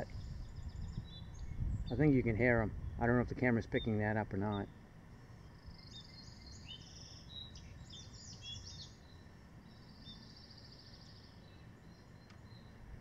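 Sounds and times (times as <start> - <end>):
eagle chittering trills: 0.0 - 12.8
low wind: 0.0 - 13.0.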